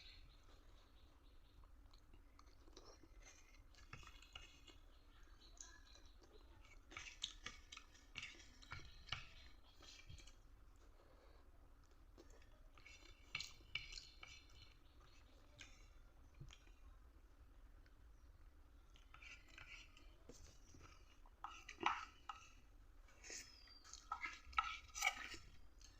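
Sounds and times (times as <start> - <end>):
person chewing noodles: 1.6 - 16.8, 18.8 - 25.9.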